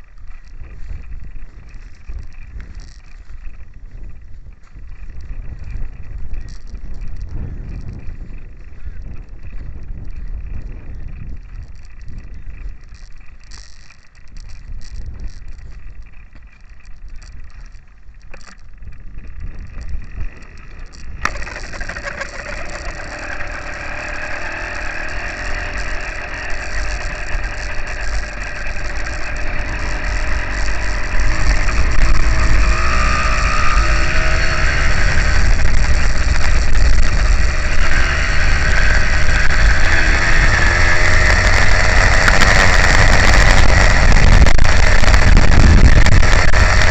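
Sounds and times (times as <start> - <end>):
small two-stroke engine running: 0.0 - 46.9
wind and rolling noise: 0.0 - 46.9.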